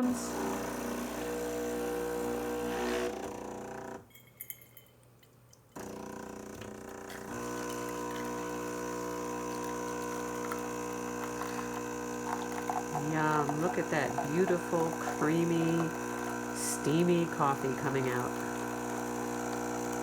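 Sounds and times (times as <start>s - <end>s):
espresso machine pump humming: 0.0s - 3.8s, 5.8s - 20.0s.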